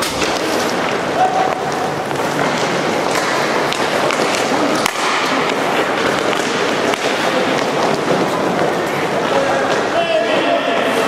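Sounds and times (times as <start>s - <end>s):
skate wheels rolling: 0.0s - 11.0s
sticks and puck clacking: 0.0s - 11.0s.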